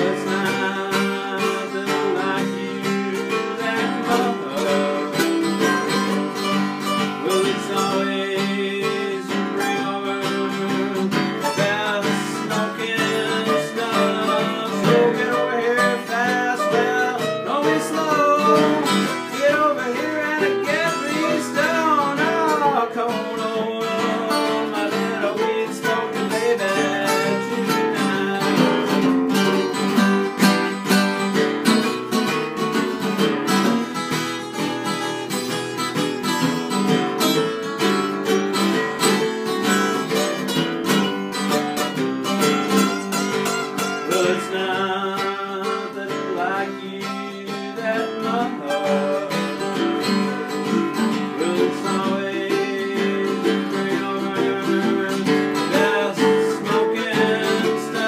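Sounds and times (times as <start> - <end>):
man singing: 0.0 - 31.0, 33.2 - 58.0
acoustic guitars playing: 0.0 - 58.0.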